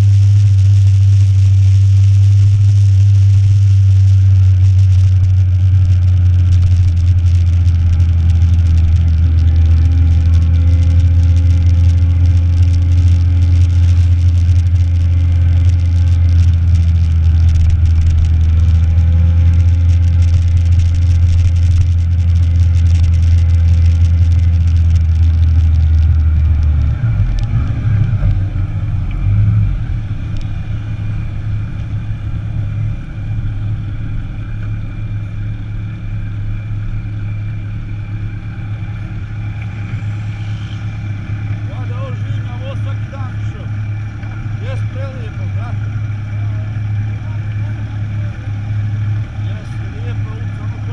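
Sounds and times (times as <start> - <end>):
motorcycle engine droning: 0.0 - 50.9.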